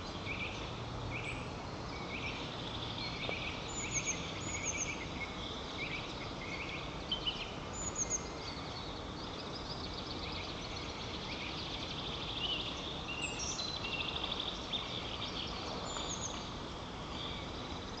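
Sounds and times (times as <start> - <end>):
songbirds chirping and trilling: 0.0 - 18.0
steady background hiss: 0.0 - 18.0.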